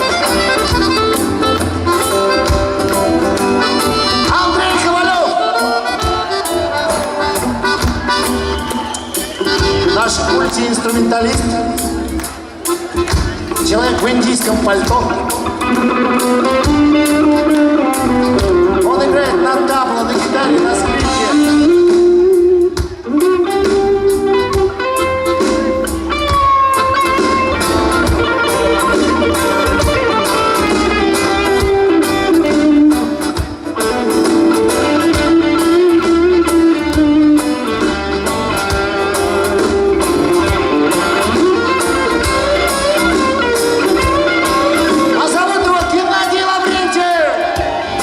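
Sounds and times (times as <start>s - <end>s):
bass guitar: 0.0s - 48.0s
lead guitar with bent notes: 0.0s - 48.0s.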